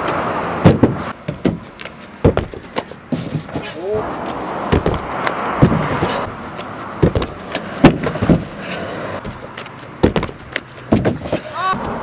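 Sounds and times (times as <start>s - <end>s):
steady rushing noise: 0.0s - 12.0s
feet and hands thumping a wall: 0.6s - 12.0s.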